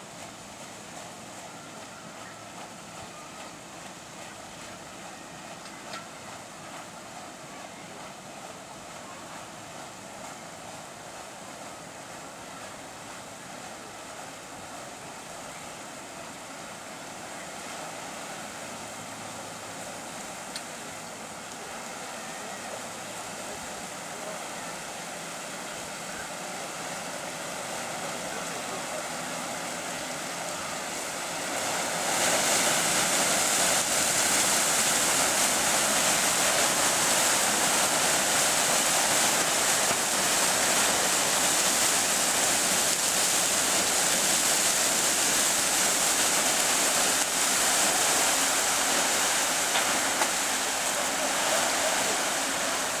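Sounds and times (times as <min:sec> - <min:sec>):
paddle wheels churning water: 0:00.0 - 0:53.0.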